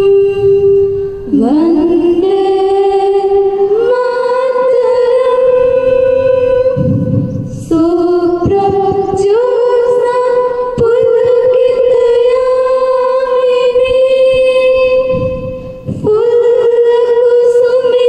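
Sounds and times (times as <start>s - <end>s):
voices singing slow song: 0.0s - 18.0s.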